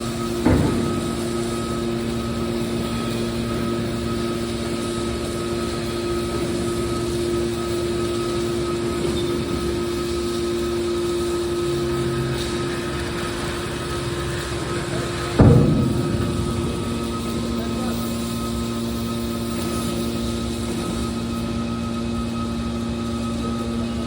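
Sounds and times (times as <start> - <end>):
baler machine humming: 0.0 - 24.0.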